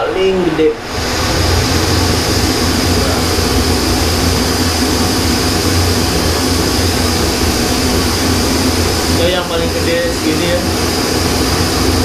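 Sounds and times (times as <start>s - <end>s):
gas stove flame hissing: 0.8s - 12.0s.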